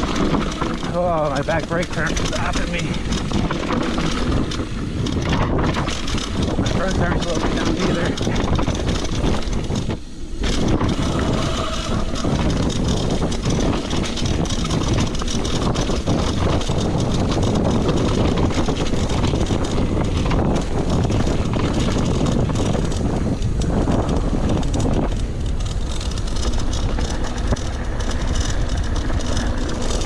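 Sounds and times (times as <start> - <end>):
bike rattling and clattering: 0.0 - 30.0
bike tyre rumble over dirt: 0.0 - 30.0.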